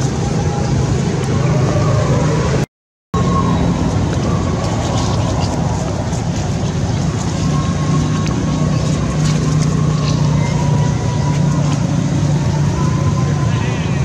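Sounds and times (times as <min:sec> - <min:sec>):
low rumbling background noise: 0:00.0 - 0:02.6, 0:03.2 - 0:14.0.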